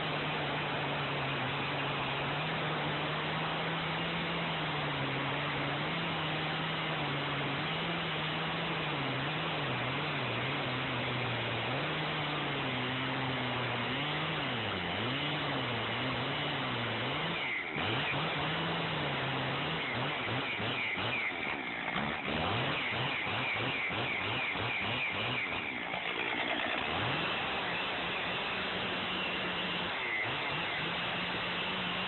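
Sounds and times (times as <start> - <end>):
chainsaw cutting log: 0.0 - 32.0
chainsaw revving: 0.0 - 32.0.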